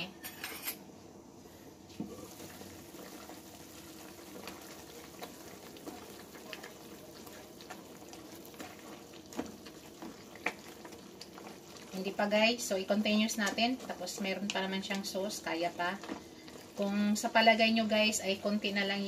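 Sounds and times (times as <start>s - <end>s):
sauce bubbling in frying pan: 1.9s - 19.0s
wooden spatula stirring meat: 2.0s - 18.9s.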